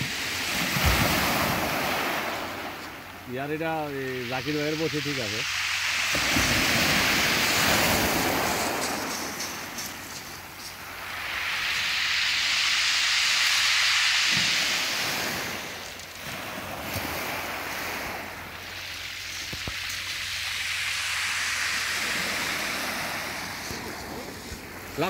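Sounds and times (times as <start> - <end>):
surf washing on shingle beach: 0.0 - 25.0.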